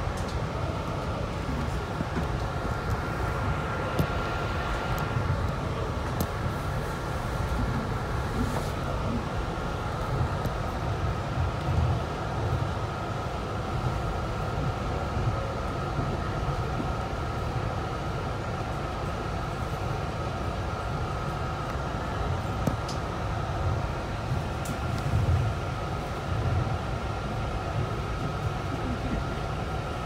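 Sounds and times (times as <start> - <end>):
constant whine: 0.0 - 30.0
train wheels rumbling on track: 0.0 - 30.0.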